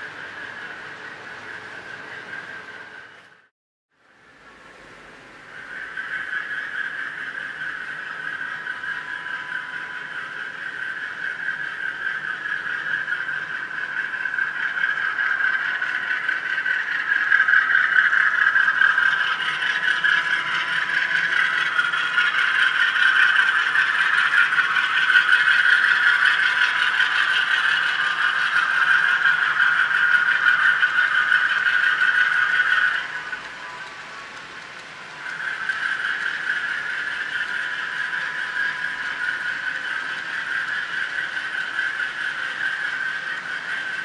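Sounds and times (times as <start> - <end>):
model diesel locomotive sound: 0.0 - 44.0
train wheels rattling over rails: 5.6 - 44.0.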